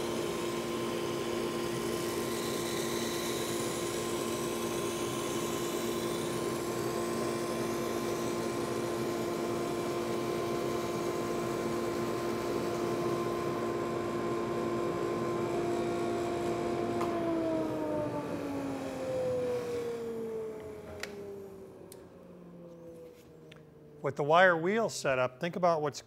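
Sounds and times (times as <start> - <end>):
sander humming and hissing: 0.0 - 21.4
motor winding down: 0.0 - 22.2.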